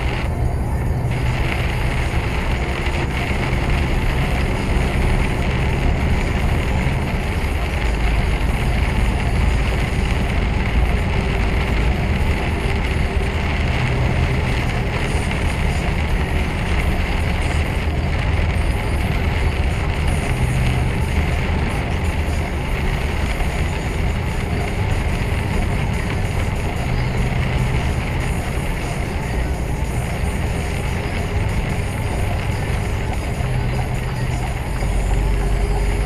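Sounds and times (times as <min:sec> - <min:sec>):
low engine hum: 0:00.0 - 0:36.0
road noise: 0:00.0 - 0:36.0.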